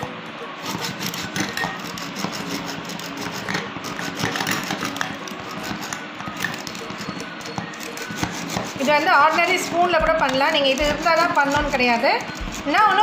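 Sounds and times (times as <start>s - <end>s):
whisk scraping a glass bowl: 0.6s - 13.0s.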